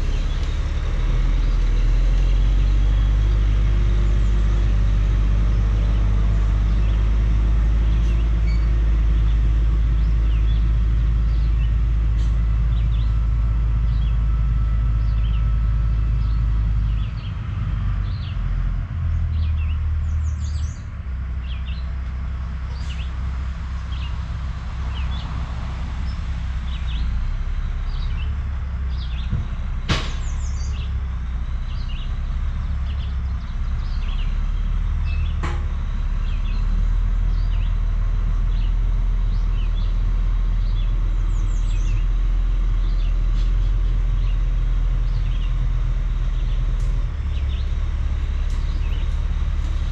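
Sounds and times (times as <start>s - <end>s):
birds chirping: 0.0s - 49.9s
diesel truck engine rumbling: 0.0s - 49.9s.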